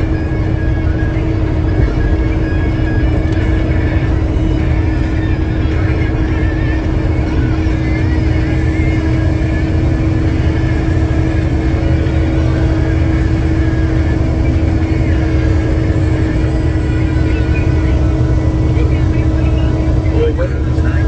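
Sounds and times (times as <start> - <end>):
road noise: 0.0 - 21.0
truck engine rumble: 0.0 - 21.0.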